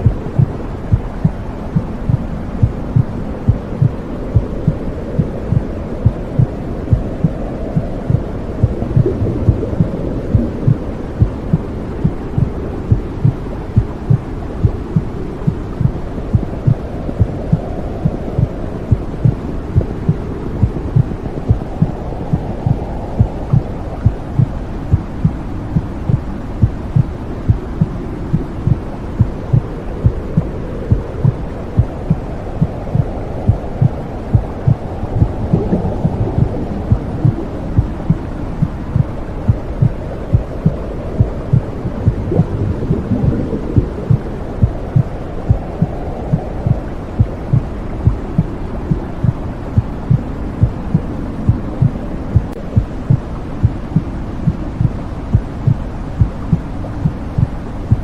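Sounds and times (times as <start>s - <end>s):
heartbeat thumping: 0.0s - 58.0s
low muffled whooshing: 0.0s - 58.0s.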